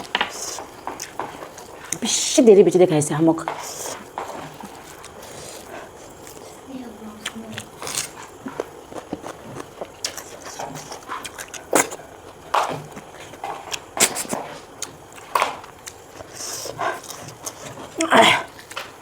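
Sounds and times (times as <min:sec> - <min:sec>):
sucking and chewing: 0:00.0 - 0:02.1, 0:03.4 - 0:19.0.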